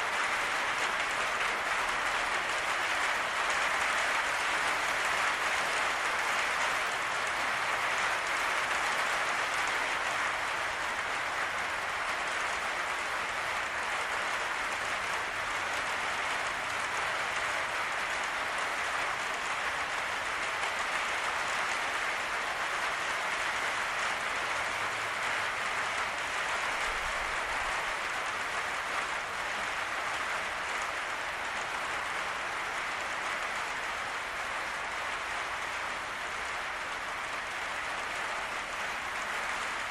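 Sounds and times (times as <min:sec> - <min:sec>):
rain on a patio roof: 0:00.0 - 0:39.9.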